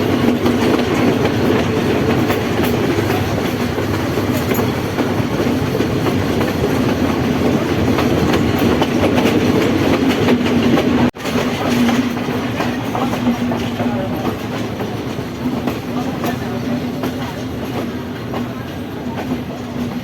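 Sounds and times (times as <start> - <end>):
train carriages rumbling and rattling: 0.0 - 20.0
wheels clacking over rail joints: 0.0 - 20.0.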